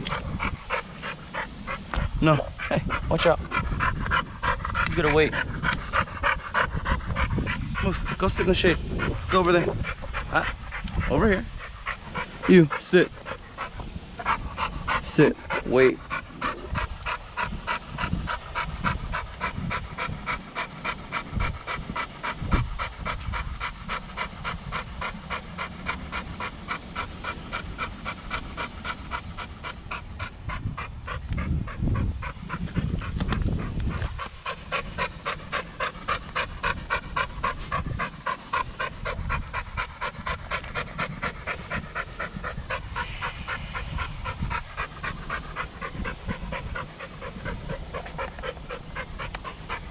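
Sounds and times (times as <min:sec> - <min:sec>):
dog panting rapidly: 0:00.0 - 0:49.9.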